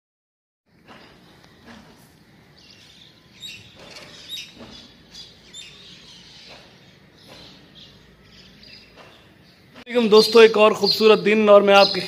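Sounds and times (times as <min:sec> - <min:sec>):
faint steady background noise: 0:00.7 - 0:12.0
small birds chirping: 0:00.7 - 0:12.0.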